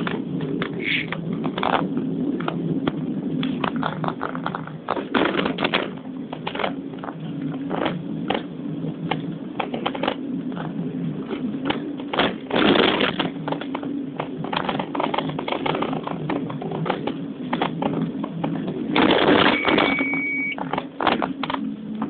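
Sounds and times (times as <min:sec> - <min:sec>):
car engine drone: 0:00.0 - 0:22.0
loud rumble: 0:00.0 - 0:22.0.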